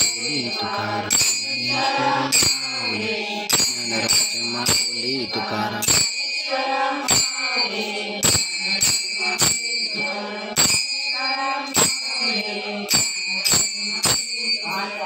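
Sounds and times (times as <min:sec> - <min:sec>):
voices chanting a melody: 0:00.0 - 0:15.0.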